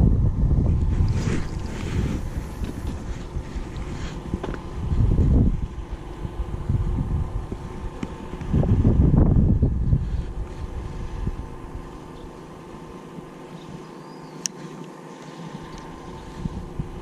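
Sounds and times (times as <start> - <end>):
wind buffeting microphone: 0.0 - 13.8, 15.6 - 17.0
steady low hum: 0.0 - 17.0.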